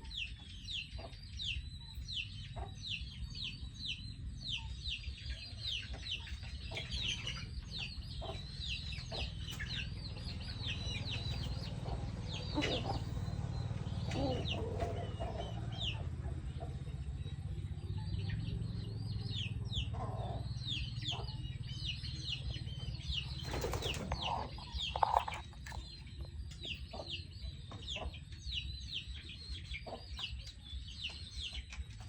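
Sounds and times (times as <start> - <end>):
chickens clucking: 0.0 - 32.0
chicks peeping: 0.0 - 32.0.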